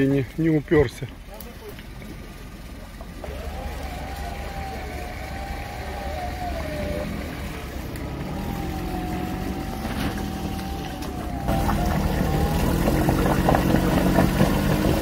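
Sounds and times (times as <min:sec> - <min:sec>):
suv engine rumble: 0:00.0 - 0:15.0.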